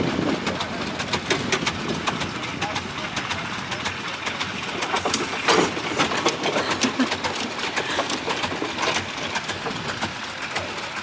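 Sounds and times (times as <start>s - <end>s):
engine parts clanking: 0.0s - 11.0s
steam engine exhaust beats: 0.0s - 11.0s.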